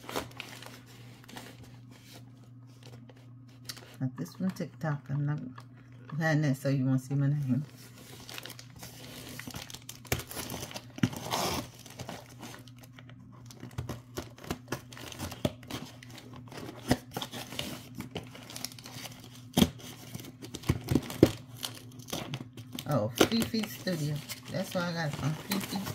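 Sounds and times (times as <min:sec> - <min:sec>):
package wrapping crinkling: 0:00.0 - 0:04.0, 0:07.6 - 0:25.9.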